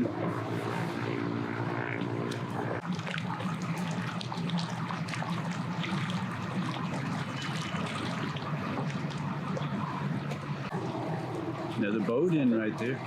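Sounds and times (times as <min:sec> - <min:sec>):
higher motor hum: 0:00.0 - 0:12.6
boat engine rumble: 0:00.0 - 0:13.0
water splashing and lapping: 0:00.0 - 0:13.0.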